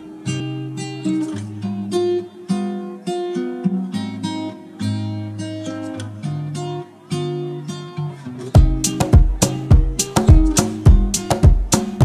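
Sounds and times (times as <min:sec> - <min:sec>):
acoustic guitar plucked and strummed: 0:00.0 - 0:12.0.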